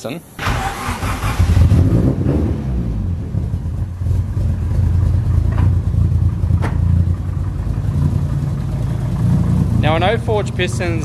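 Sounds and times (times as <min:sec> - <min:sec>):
car engine idling: 0:00.4 - 0:11.0.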